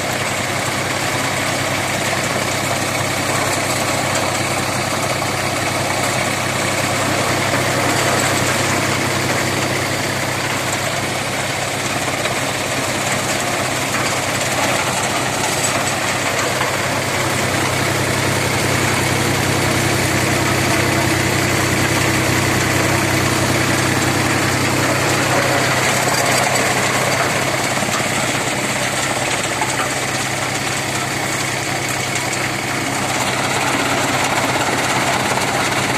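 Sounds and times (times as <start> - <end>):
tractor engine drone: 0.0 - 35.9.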